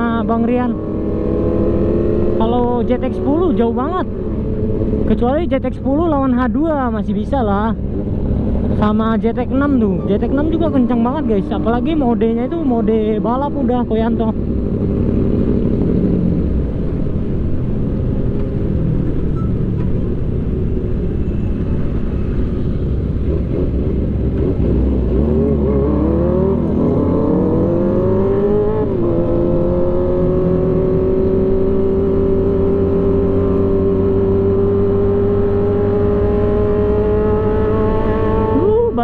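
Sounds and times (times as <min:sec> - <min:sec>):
motorcycle engine revving: 0:00.0 - 0:05.5, 0:08.2 - 0:17.9, 0:21.4 - 0:39.0
wind rumble: 0:00.0 - 0:38.9.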